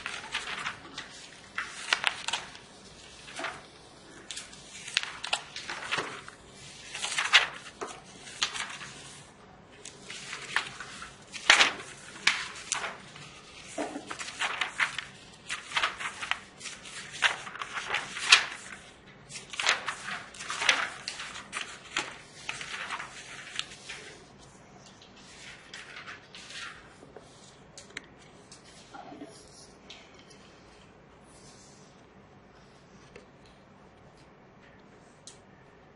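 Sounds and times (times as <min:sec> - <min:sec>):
pages rustling and turning: 0:00.0 - 0:32.1.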